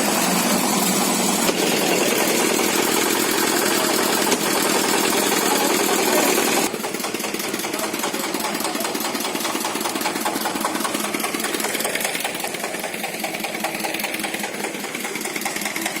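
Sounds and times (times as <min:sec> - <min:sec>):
small engine running with rattle: 0:00.0 - 0:16.0.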